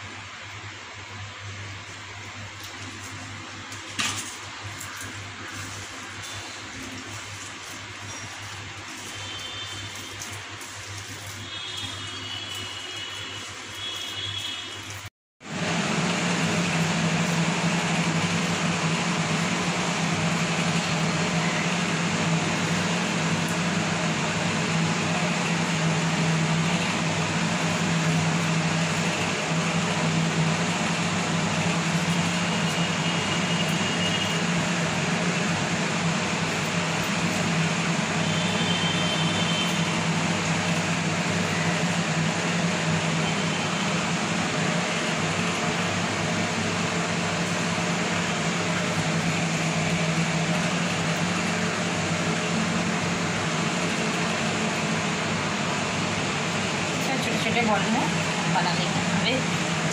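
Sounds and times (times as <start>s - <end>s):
mechanical drone with hiss: 0.0s - 59.9s.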